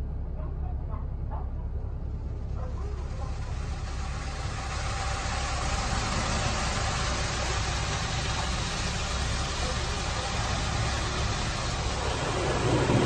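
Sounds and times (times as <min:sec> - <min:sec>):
low steady hum: 0:00.0 - 0:13.0
water spraying on car: 0:02.1 - 0:13.0.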